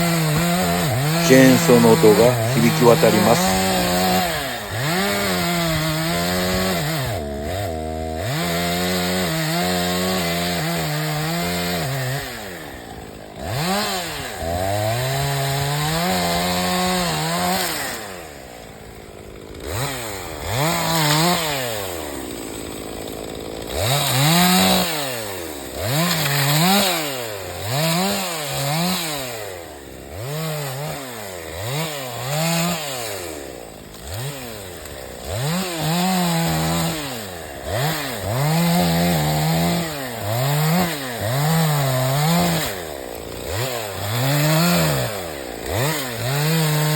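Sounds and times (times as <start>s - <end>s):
chainsaw cutting and revving: 0.0s - 46.9s.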